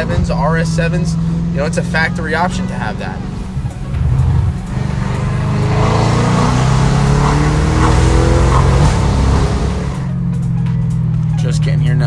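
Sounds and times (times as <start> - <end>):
engine accelerating hard: 0.0 - 11.3.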